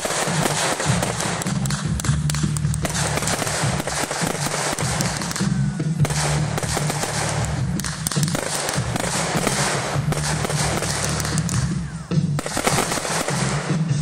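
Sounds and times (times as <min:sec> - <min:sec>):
fireworks popping and crackling: 0:00.0 - 0:14.0
music with bass line: 0:00.1 - 0:14.0.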